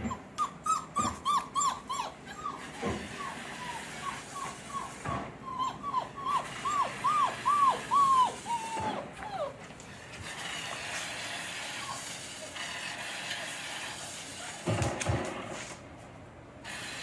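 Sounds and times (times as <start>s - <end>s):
puppy whining: 0.0s - 12.2s, 13.4s - 14.9s.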